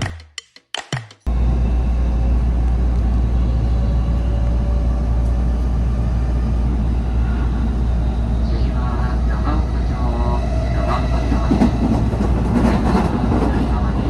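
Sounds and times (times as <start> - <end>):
train rumbling: 1.3 - 14.0.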